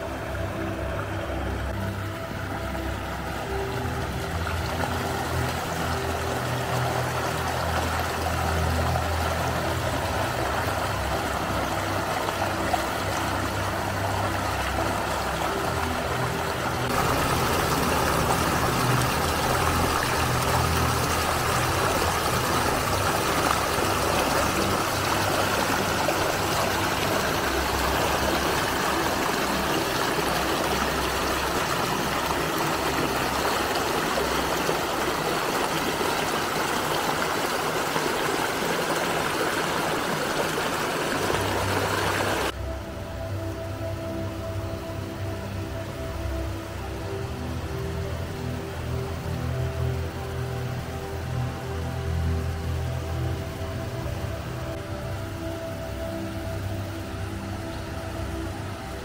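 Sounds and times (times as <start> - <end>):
stream trickling over rocks: 0.0 - 59.0.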